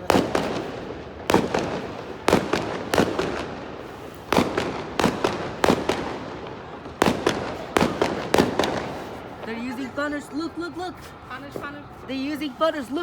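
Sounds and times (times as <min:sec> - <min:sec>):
fireworks bangs: 0:00.0 - 0:10.5.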